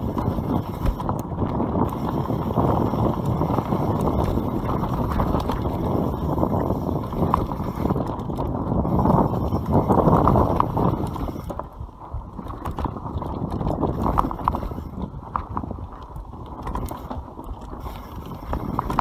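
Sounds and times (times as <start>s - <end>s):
bike rattling: 0.0s - 19.0s
wind buffeting microphone: 0.0s - 19.0s.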